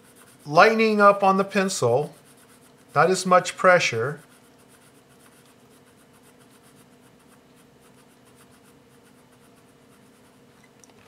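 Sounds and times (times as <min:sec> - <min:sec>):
pencil shading on paper: 0:00.0 - 0:10.6.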